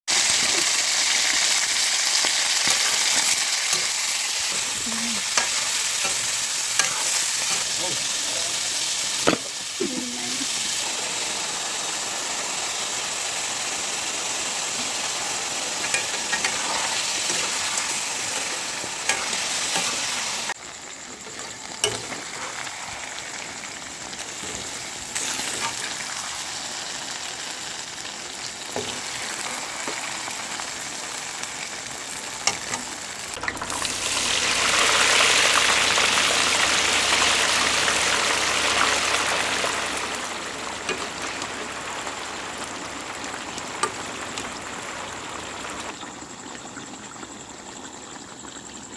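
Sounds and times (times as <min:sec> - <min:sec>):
pork sizzling in a pan: 0:00.1 - 0:48.9.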